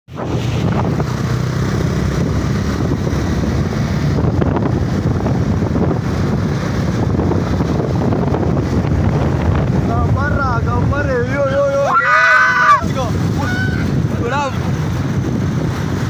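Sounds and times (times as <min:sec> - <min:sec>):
wind rushing over microphone: 0:00.1 - 0:16.0.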